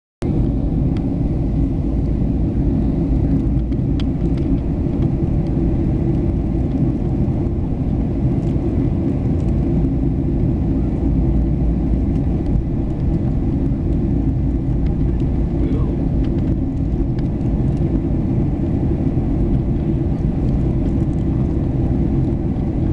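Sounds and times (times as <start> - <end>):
jet engines and airflow rumble: 0.2 - 22.9.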